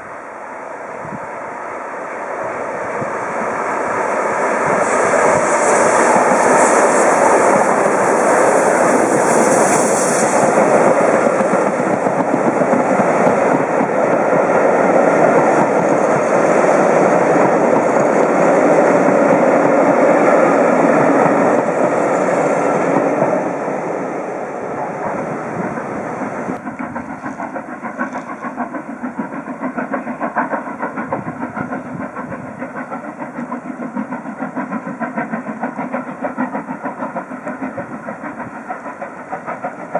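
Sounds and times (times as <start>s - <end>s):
distant steam locomotive chuffing: 0.0s - 39.9s
train wheels clattering over rails: 2.9s - 23.4s, 24.8s - 39.9s.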